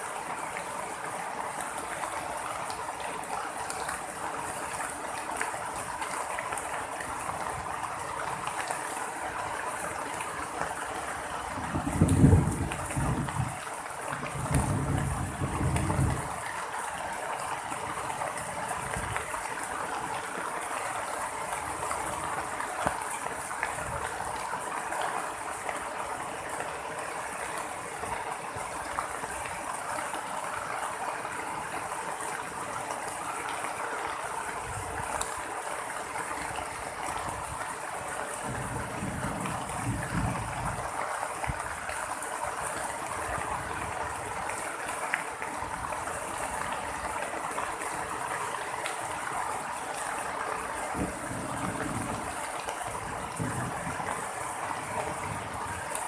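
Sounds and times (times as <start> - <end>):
rain falling: 0.0 - 56.0
running water: 0.0 - 56.0.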